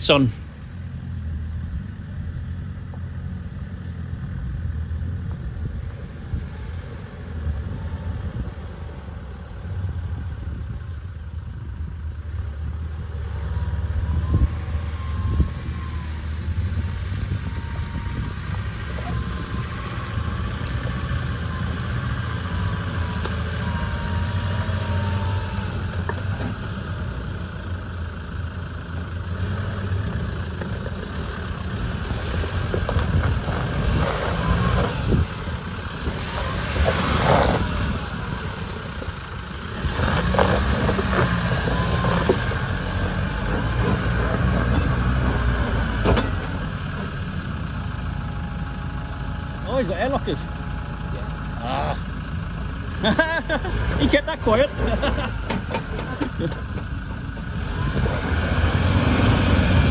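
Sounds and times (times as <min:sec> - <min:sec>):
vehicle engine at low revs: 0:00.0 - 0:59.9.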